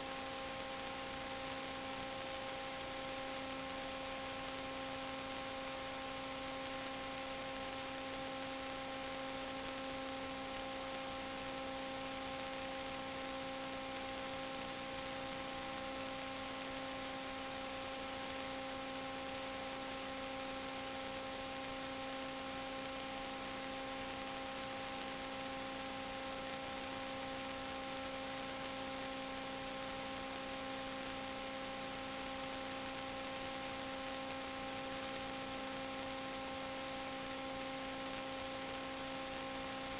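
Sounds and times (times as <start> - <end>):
constant hiss: 0.0 - 39.9.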